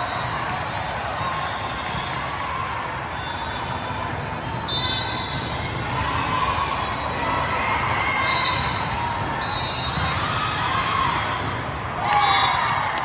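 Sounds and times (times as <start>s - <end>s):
crowd voices: 0.0s - 13.0s
volleyballs hit and bouncing: 0.0s - 13.0s.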